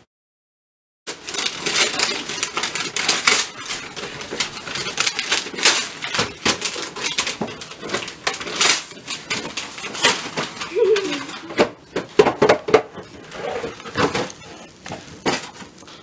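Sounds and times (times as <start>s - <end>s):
wrapping paper tearing and crumpling: 1.1s - 11.6s, 12.7s - 16.0s.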